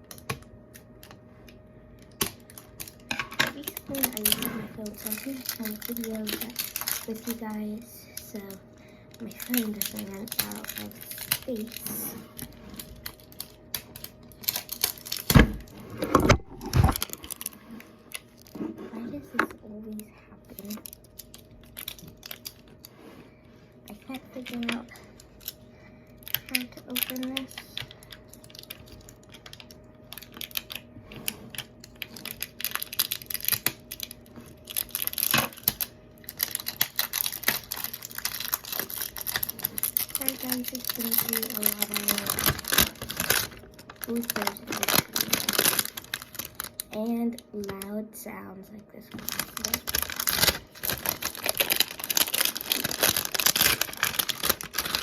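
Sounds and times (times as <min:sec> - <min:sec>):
plastic container clicks and crinkles: 0:00.0 - 0:07.4, 0:09.2 - 0:22.8, 0:26.2 - 0:47.0, 0:49.2 - 0:55.0.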